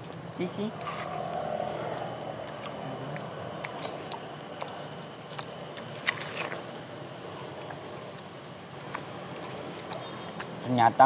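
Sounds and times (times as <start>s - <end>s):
watermelon being chewed: 0.0s - 11.0s.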